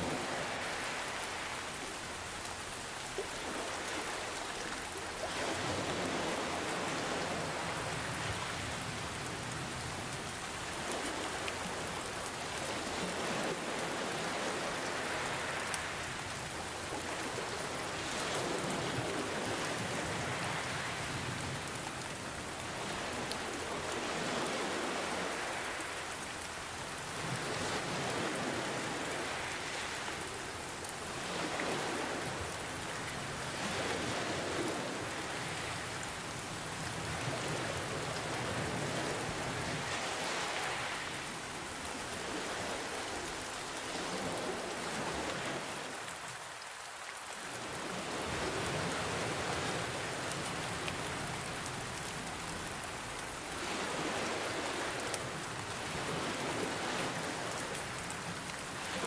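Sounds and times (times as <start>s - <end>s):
ocean waves washing in: 0.0s - 59.0s
rain hiss: 0.0s - 59.0s.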